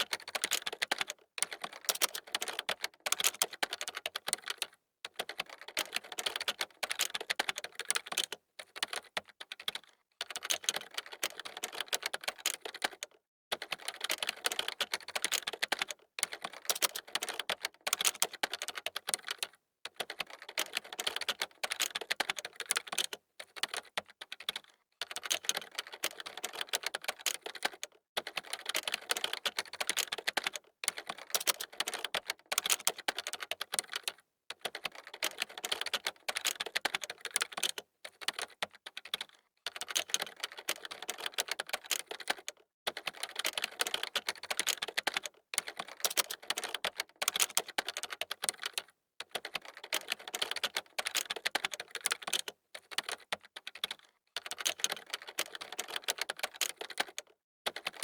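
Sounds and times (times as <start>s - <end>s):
computer keyboard typing: 0.0s - 58.0s.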